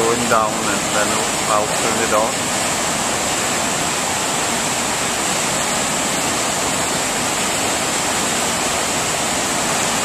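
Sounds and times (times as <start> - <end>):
river rushing over a drop: 0.0 - 10.0.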